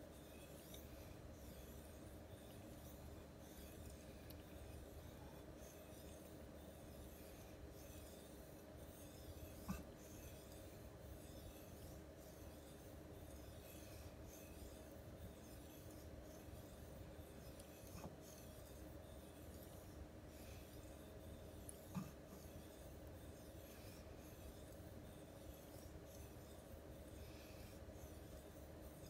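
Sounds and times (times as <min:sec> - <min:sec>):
knife scraping on whetstone: 0:00.2 - 0:29.0.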